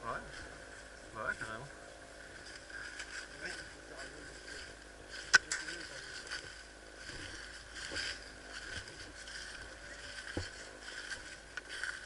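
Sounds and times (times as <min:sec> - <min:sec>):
rustling and handling noise: 0:00.2 - 0:12.0.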